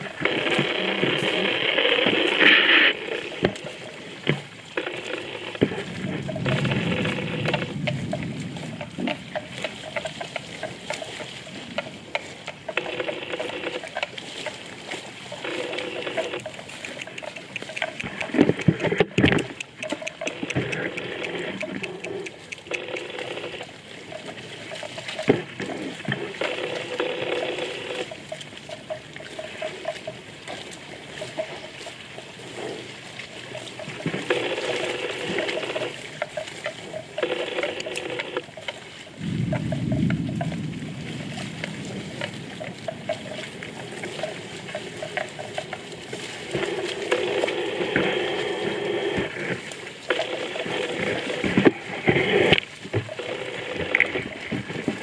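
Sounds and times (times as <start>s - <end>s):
water sloshing and splashing: 0.0s - 55.0s.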